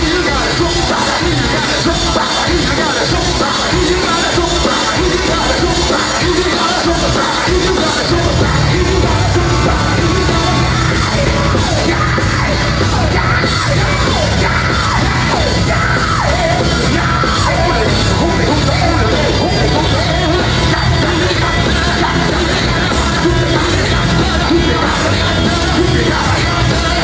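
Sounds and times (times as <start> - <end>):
drum kit: 0.0 - 27.0
electric bass: 0.0 - 27.0
electric guitar: 0.0 - 27.0
person yelling and singing: 0.0 - 27.0.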